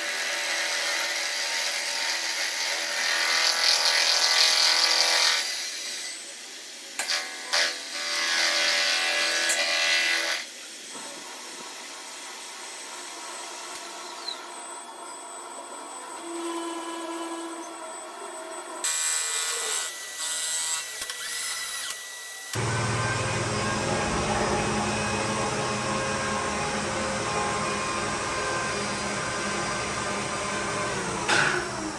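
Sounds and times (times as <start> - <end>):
power tools working: 0.0 - 31.9.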